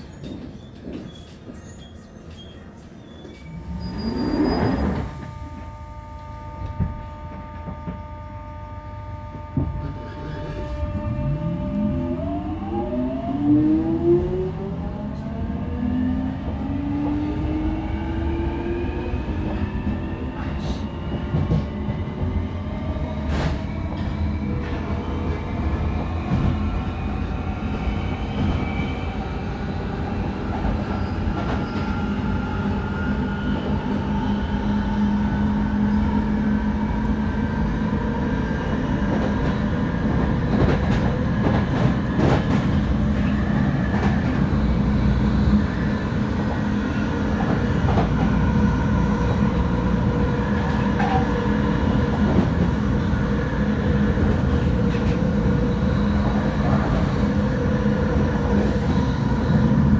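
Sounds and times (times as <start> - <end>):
rumble of wheels on rail: 0.0 - 59.9.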